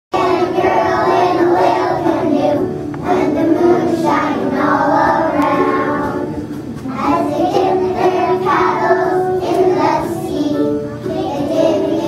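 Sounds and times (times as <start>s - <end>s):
children singing in unison: 0.2s - 12.0s.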